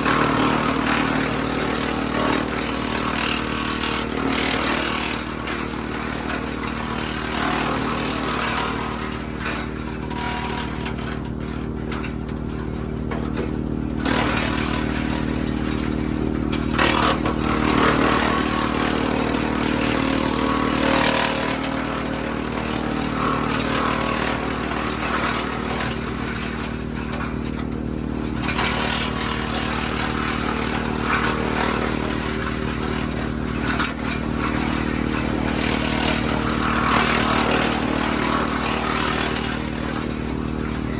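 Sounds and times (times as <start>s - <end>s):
wood chipper chipping branches: 0.0s - 40.9s.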